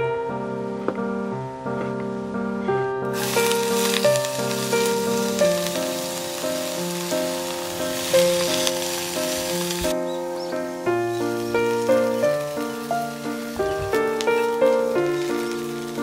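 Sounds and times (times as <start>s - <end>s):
background piano music: 0.0s - 16.0s
food sizzling in a wok: 3.1s - 16.0s.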